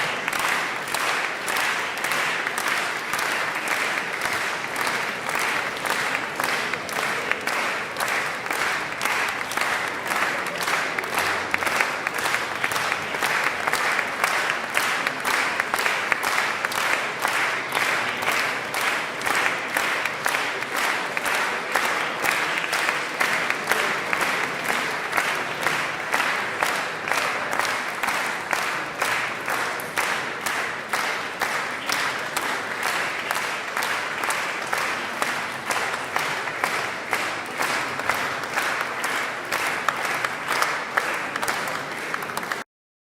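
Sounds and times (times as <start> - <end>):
audience clapping in rhythm: 0.0 - 42.7.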